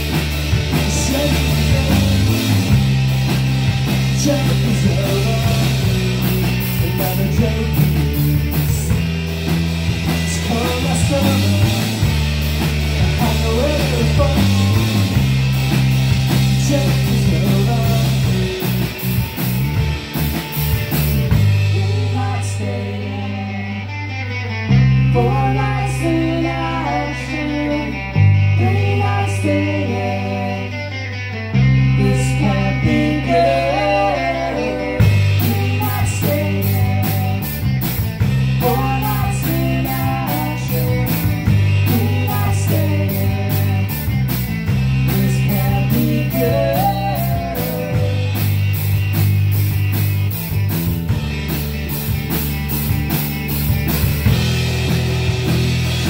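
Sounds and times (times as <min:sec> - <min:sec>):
drum kit: 0:00.0 - 0:22.7, 0:31.6 - 0:56.0
bass guitar low notes: 0:00.0 - 0:56.0
electric guitars: 0:00.0 - 0:56.0.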